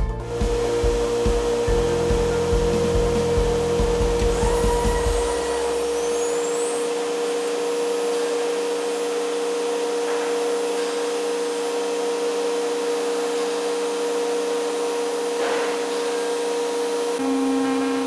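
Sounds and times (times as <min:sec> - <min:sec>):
router spindle whine: 0:00.2 - 0:18.0.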